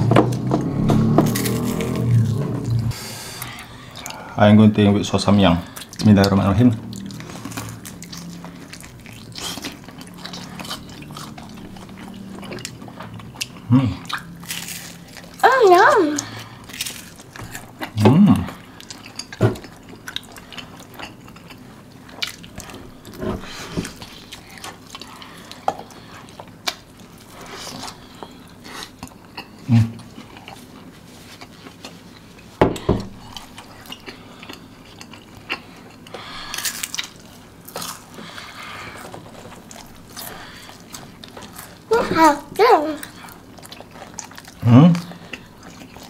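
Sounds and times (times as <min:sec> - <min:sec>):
wet chewing and mouth clicks: 0:05.6 - 0:15.4, 0:16.1 - 0:46.0.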